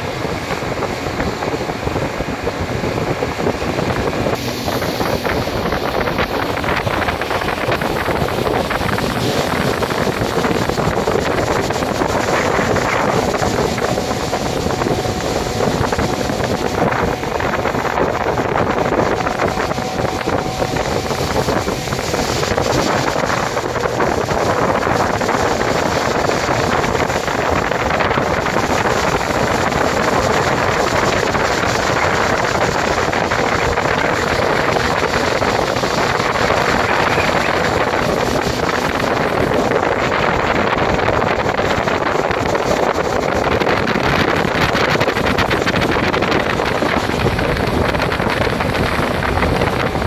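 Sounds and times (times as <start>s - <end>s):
rushing water: 0.0s - 50.0s
speedboat engine drone: 0.0s - 50.0s
wind buffeting microphone: 0.0s - 50.0s.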